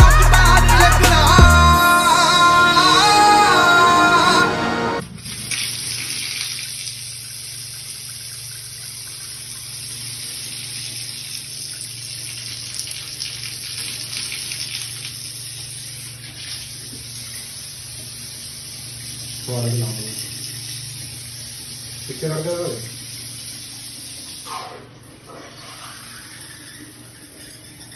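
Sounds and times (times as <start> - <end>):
water running from a tap: 5.2 - 27.9.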